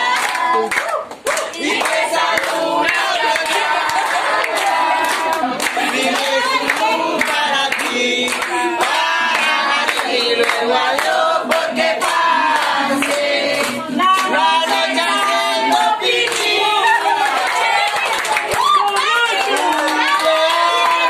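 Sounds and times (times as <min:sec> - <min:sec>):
group singing a celebration song: 0:00.0 - 0:21.0
people clapping in time: 0:00.0 - 0:21.0.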